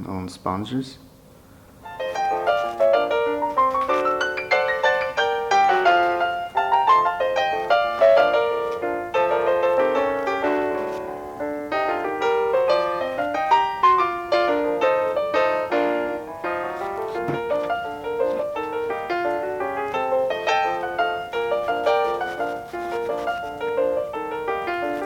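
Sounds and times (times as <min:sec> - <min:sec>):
piano music: 0:01.8 - 0:25.0.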